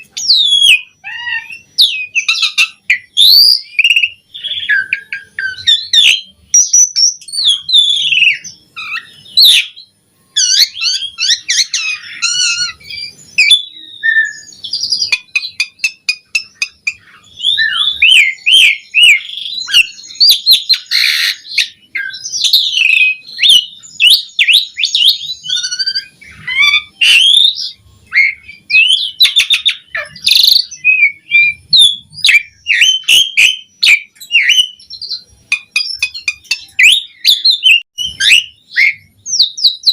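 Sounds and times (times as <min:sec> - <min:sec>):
starling whistling song: 0:00.0 - 0:39.9.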